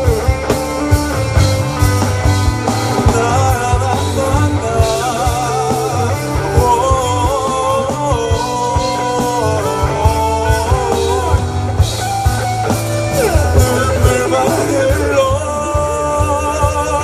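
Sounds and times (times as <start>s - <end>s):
bass guitar: 0.0s - 17.0s
drum kit: 0.0s - 17.0s
lead melody with bending notes: 0.0s - 17.0s.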